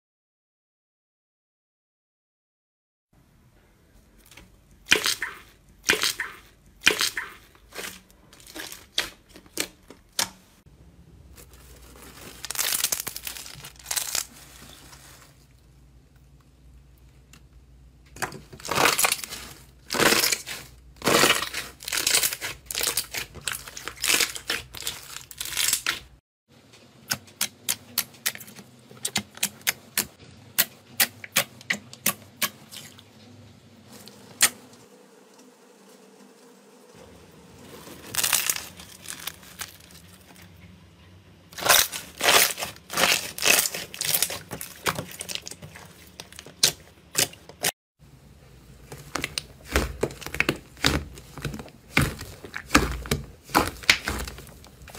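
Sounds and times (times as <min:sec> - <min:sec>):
slime squelching: 0:04.0 - 0:10.6, 0:11.2 - 0:26.2, 0:27.1 - 0:34.7, 0:37.6 - 0:40.6, 0:41.5 - 0:54.9.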